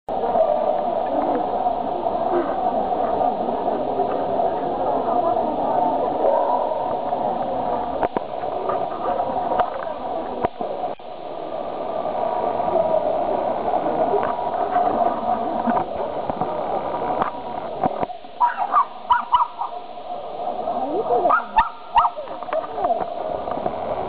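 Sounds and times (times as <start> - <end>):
crowd chattering indoors: 0.1 - 24.0.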